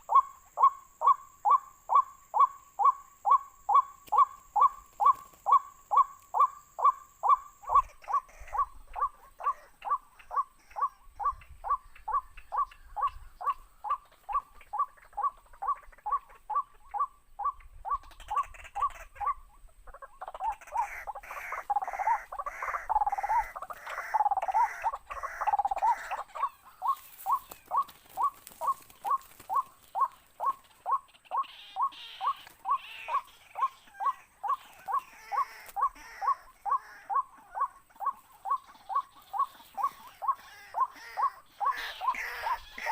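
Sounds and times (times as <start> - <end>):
harsh bird calls: 0.0 - 42.9
waterhen calls: 0.0 - 42.9.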